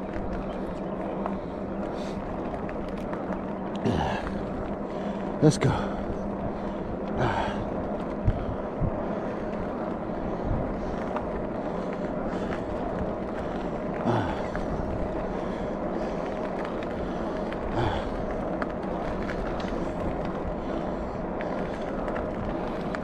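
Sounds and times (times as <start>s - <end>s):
wind rush: 0.0s - 23.0s.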